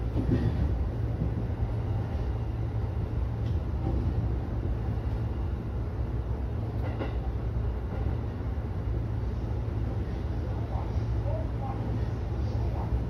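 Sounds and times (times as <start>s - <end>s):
train running gear rumble: 0.0s - 13.0s.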